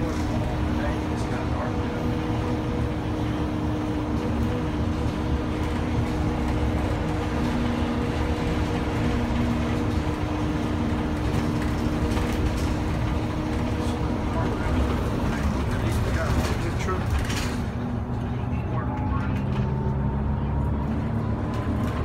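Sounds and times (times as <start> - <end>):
bus engine hum: 0.0 - 22.0
road rumble: 0.0 - 22.0.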